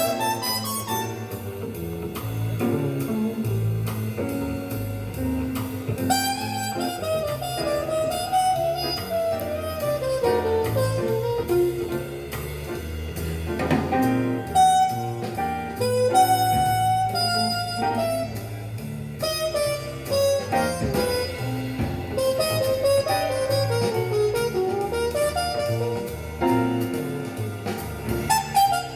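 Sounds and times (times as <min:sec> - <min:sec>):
jazz music: 0:00.0 - 0:28.9.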